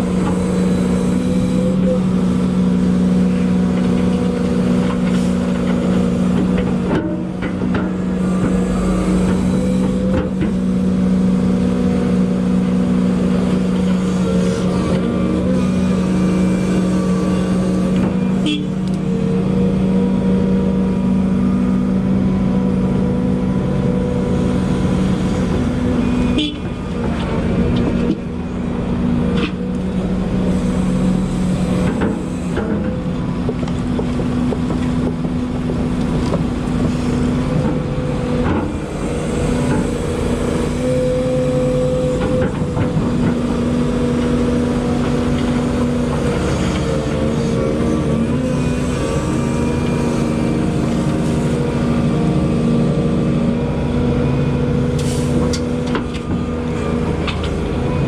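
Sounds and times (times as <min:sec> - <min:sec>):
excavator engine and hydraulics: 0:00.0 - 0:58.0.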